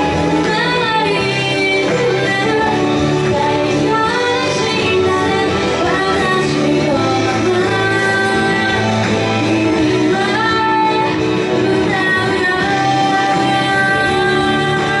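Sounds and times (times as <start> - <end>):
woman singing pop ballad: 0.0 - 15.0.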